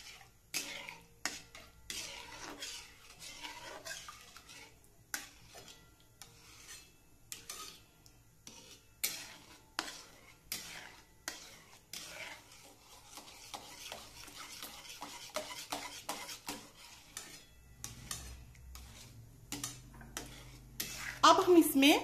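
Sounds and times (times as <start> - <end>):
spatula scraping metal pan: 0.0 - 22.0.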